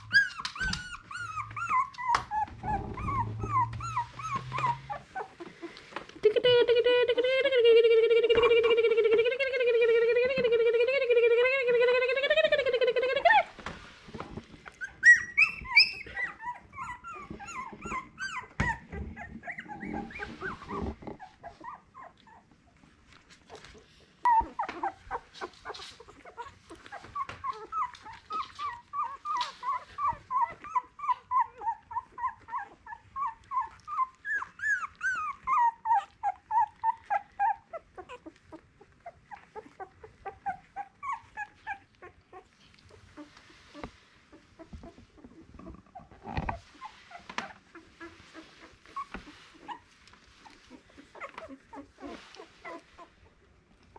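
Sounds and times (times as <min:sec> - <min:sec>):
rustling: 0:00.0 - 0:06.4, 0:12.5 - 0:53.9
puppies whimpering and squealing: 0:00.0 - 0:53.9.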